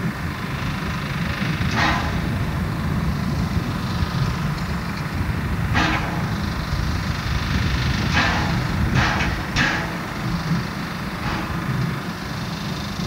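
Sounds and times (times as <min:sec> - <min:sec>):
steam locomotive low rumble: 0:00.0 - 0:13.0.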